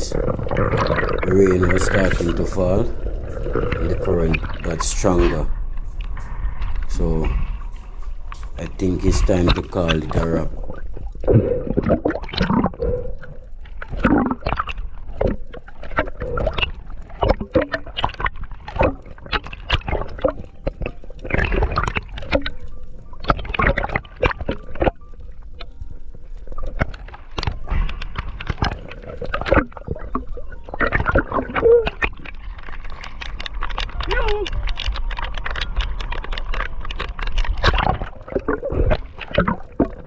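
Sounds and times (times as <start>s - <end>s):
sea water sloshing and gurgling: 0.0s - 40.0s.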